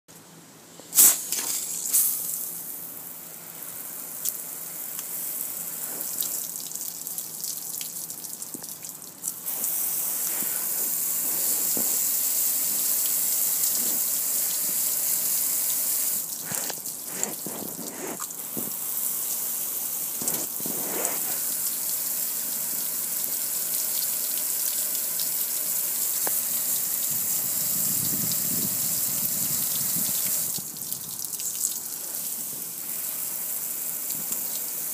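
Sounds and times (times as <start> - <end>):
water spray drumming on metal grill: 1.0 - 8.7, 9.3 - 34.9
water splashing onto concrete: 3.6 - 34.9.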